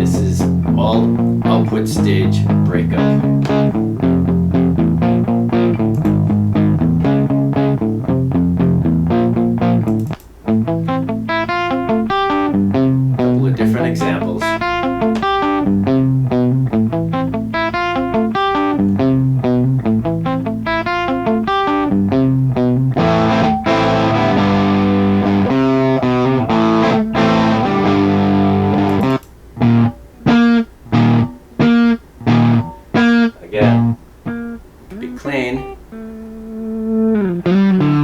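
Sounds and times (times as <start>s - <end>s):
distorted electric guitar: 0.0s - 38.0s.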